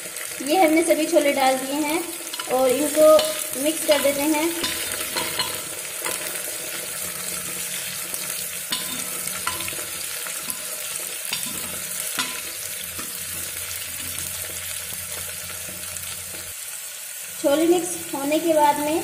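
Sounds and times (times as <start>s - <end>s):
chickpeas sizzling in hot oil: 0.0s - 19.0s.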